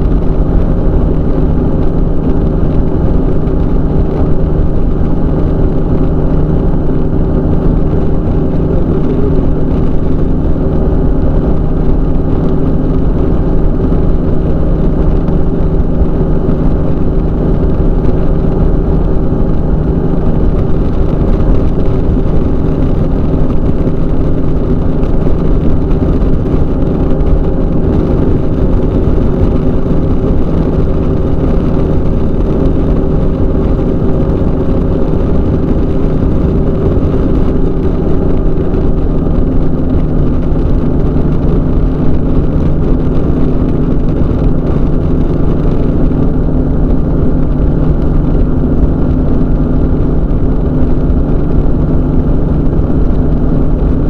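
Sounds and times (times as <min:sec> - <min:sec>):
aircraft engine and propeller: 0:00.0 - 0:54.0
wind rushing over microphone: 0:00.0 - 0:54.0.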